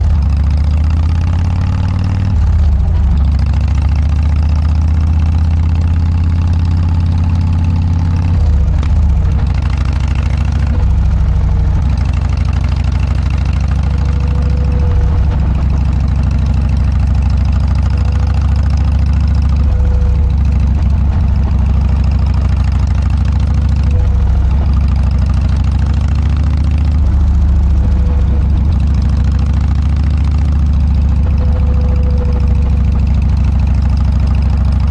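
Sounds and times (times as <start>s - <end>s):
motorcycle exhaust deep note: 0.0s - 34.9s.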